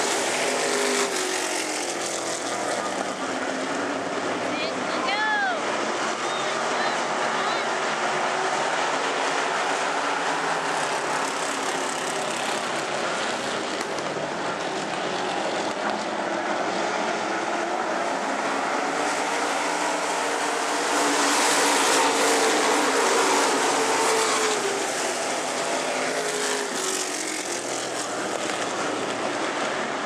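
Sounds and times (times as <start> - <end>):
racing car engines roaring: 0.0 - 30.0.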